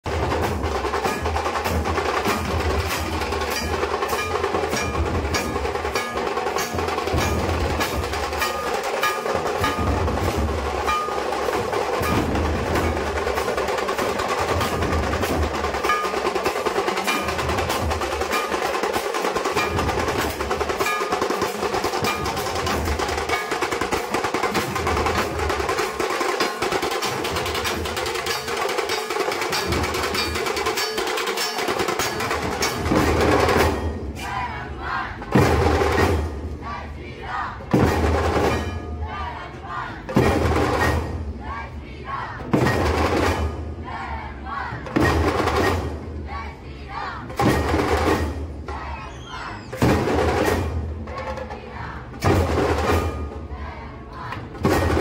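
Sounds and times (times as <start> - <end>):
heavy barrel drums beaten: 0.0 - 55.0.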